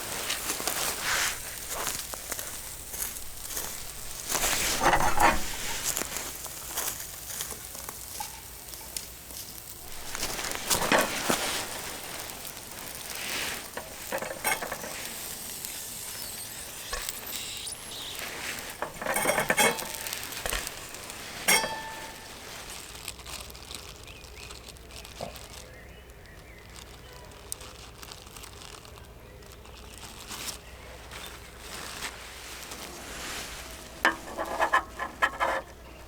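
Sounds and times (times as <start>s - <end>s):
clicks and crackles: 0.0s - 36.0s
crumpling: 0.0s - 36.0s.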